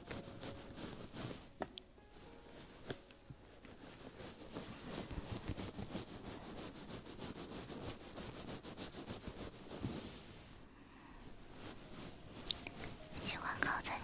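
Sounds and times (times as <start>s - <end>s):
scratchy brushing on microphone: 0.0s - 10.6s, 11.3s - 14.0s.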